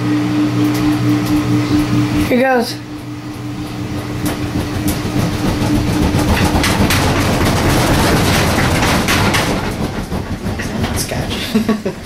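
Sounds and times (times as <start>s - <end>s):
washing machine rumbling: 0.0s - 12.0s
cabinet rattling knocks: 1.6s - 12.0s.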